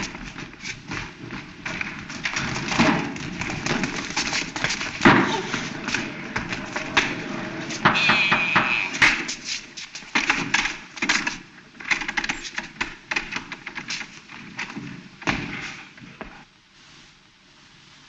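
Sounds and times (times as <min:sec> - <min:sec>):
clatter of knocks and thumps: 0:00.0 - 0:09.4, 0:10.0 - 0:16.4.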